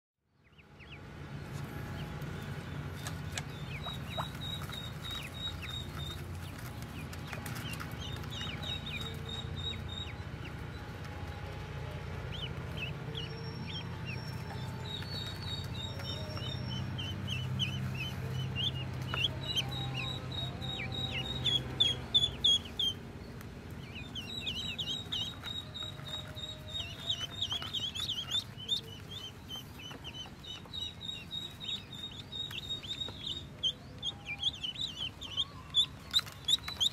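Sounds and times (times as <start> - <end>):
ducklings peeping: 0.4 - 36.9.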